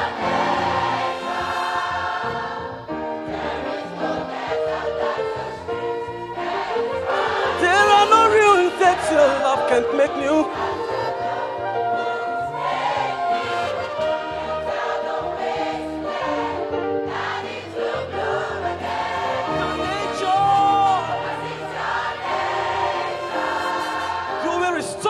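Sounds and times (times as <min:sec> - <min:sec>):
bowed violins: 0:00.0 - 0:25.0
choir singing gospel song: 0:00.0 - 0:25.0.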